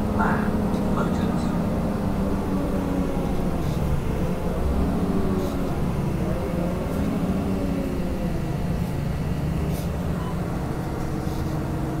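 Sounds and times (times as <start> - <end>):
bus engine and tyre rumble: 0.0 - 12.0.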